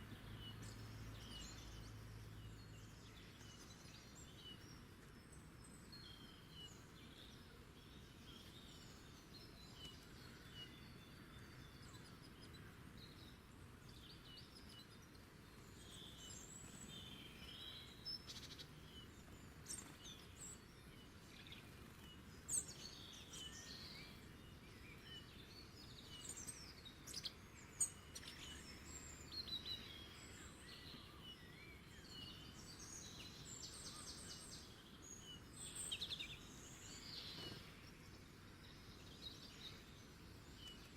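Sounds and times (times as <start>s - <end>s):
low steady hiss: 0.0s - 40.9s.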